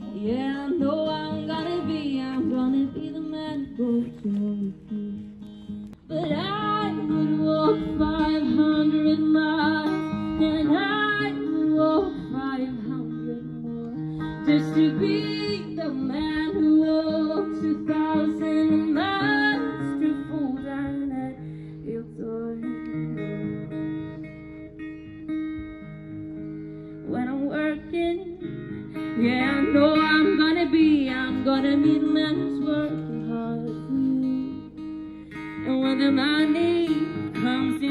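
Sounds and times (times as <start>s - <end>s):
woman singing: 0.0s - 24.4s, 26.9s - 37.9s
acoustic guitar: 0.0s - 37.9s.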